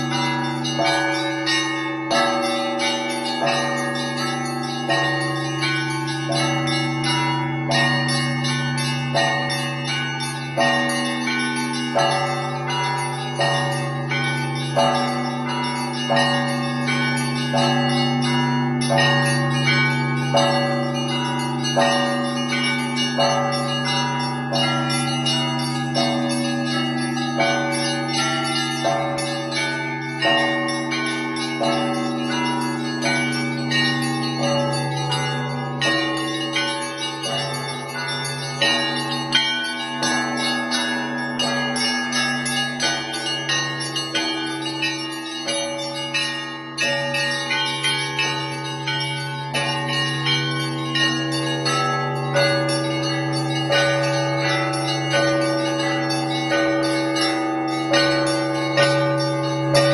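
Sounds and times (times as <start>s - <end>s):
deep hum of large bell: 0.0s - 59.9s
smaller bells ringing quick patterns: 0.0s - 59.9s.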